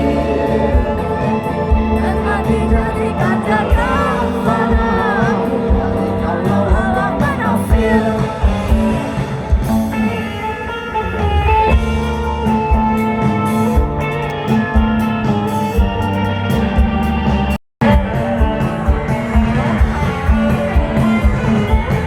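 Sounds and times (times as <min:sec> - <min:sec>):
bending guitar melody: 0:00.0 - 0:22.0
rock band music: 0:00.0 - 0:22.0.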